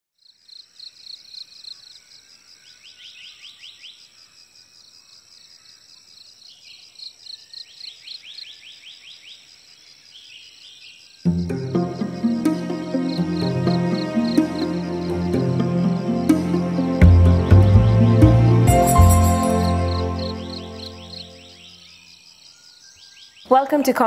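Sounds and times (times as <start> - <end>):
crickets trilling: 0.2 - 24.0.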